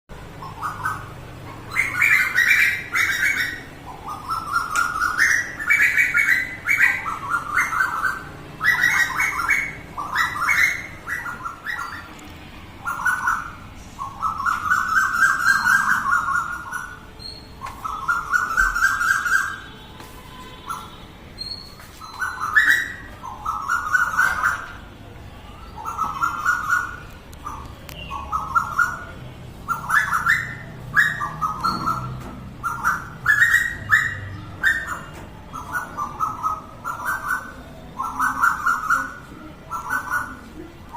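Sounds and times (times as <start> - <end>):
quails chirping rapidly: 0.4 - 12.2, 12.8 - 17.0, 17.6 - 19.6, 21.6 - 24.7, 25.8 - 29.1, 29.7 - 40.5.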